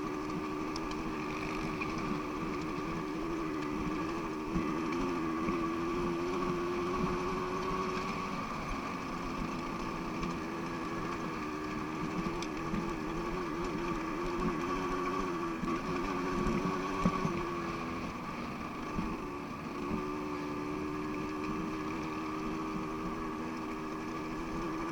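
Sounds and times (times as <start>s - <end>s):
dirt bike engine running: 0.0s - 24.9s.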